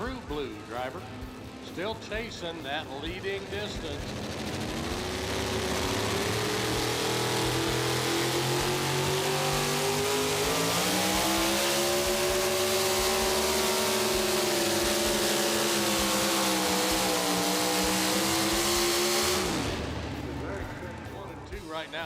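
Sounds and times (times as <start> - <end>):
truck engine at full throttle: 0.0 - 22.0.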